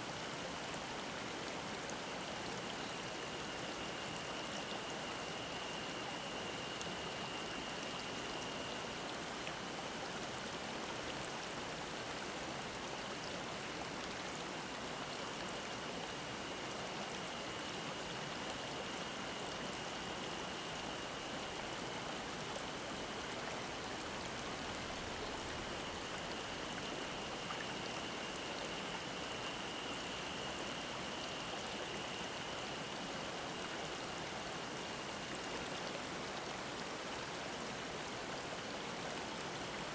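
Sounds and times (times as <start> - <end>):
cicada drone: 0.6 - 37.4.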